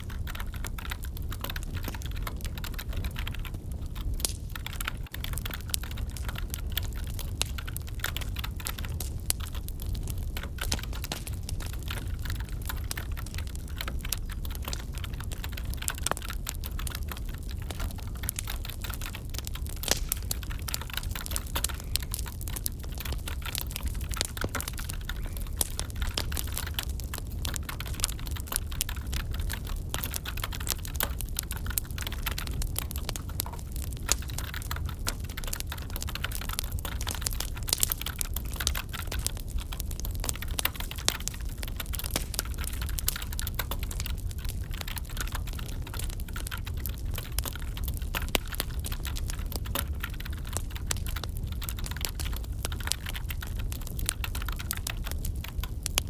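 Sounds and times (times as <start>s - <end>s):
wood fire crackling and popping: 0.0s - 56.0s
computer keyboard typing: 0.1s - 56.0s.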